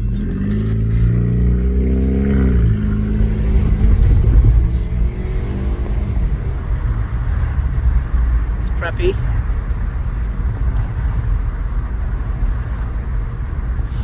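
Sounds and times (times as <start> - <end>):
car engine accelerating: 0.0 - 14.0
road and wind noise: 0.0 - 14.0.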